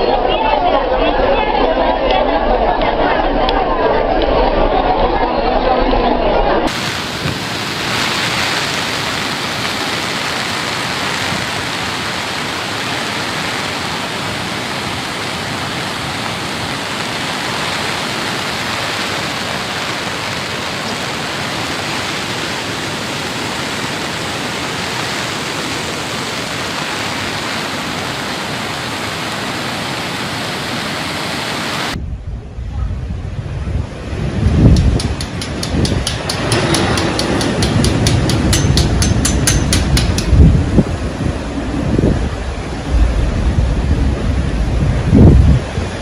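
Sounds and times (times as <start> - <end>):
heavy rain: 6.6 - 32.0, 33.8 - 46.0
wind-driven water rushing: 6.6 - 46.0.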